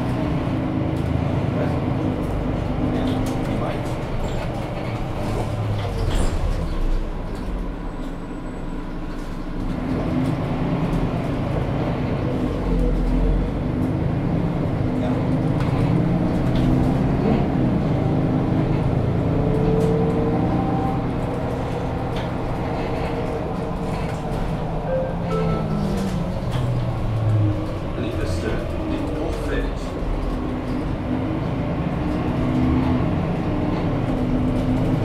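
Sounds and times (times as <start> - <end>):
bus engine accelerating: 0.0 - 35.0.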